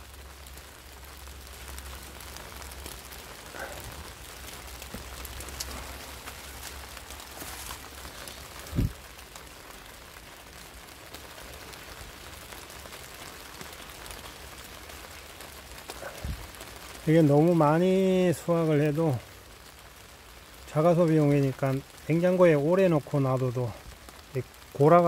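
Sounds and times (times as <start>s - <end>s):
light rain on plastic: 0.0s - 25.0s.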